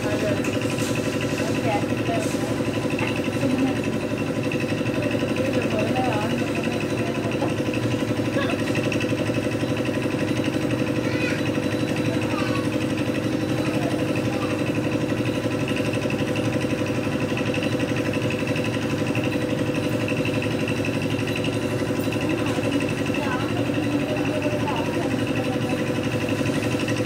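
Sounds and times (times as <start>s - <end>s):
concrete mixer engine running: 0.0s - 27.0s.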